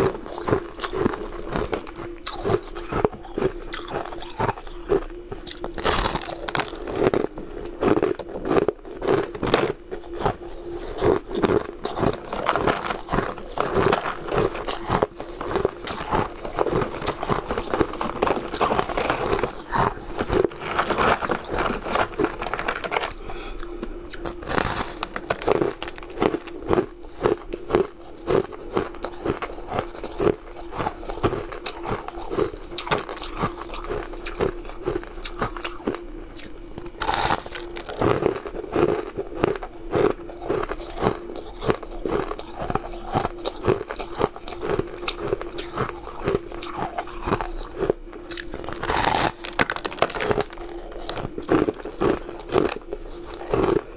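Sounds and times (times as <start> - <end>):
ice crunching and chewing: 0.0 - 53.9.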